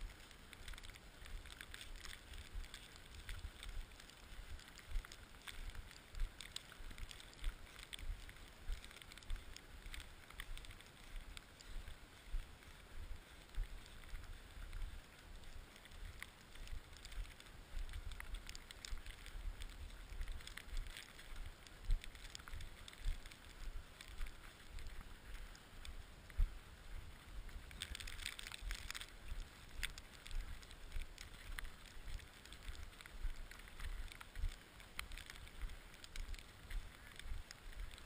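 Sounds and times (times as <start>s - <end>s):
light crackling and scraping: 0.0s - 38.0s.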